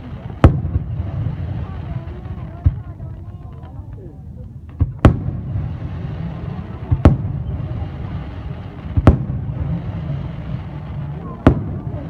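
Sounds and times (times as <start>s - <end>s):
background noise: 0.0s - 12.0s
fireworks bangs: 0.0s - 12.0s.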